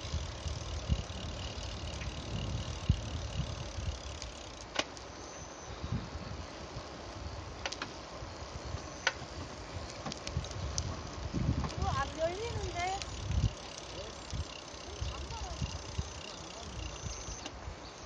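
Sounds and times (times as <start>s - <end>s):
wind rumbling on microphone: 0.0s - 4.8s, 5.6s - 18.0s
bike clicks and rattles: 0.0s - 5.2s, 6.7s - 17.6s
bicycle riding on paved path: 0.0s - 18.0s.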